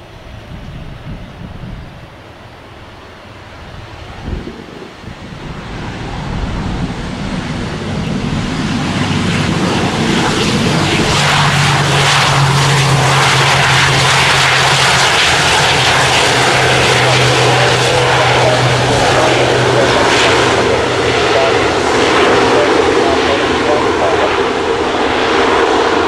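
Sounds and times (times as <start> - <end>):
low propeller hum: 0.0 - 26.0
turboprop engines: 0.0 - 26.0.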